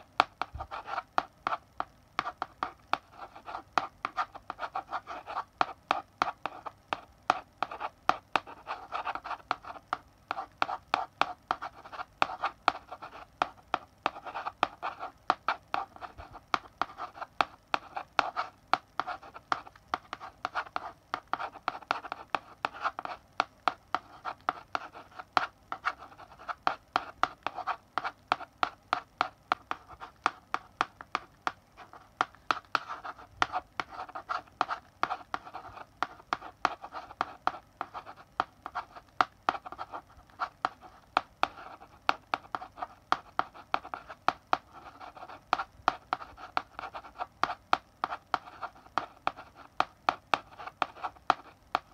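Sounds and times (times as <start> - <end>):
chalk writing on blackboard: 0.0 - 51.9.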